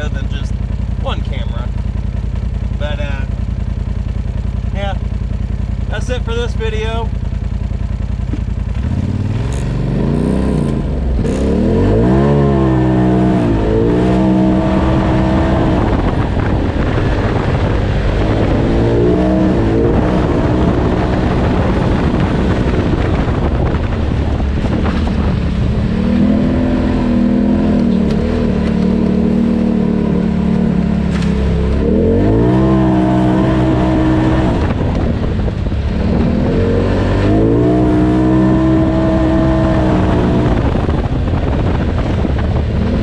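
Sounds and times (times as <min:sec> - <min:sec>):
turbocharged engine revving: 0:05.8 - 0:43.0.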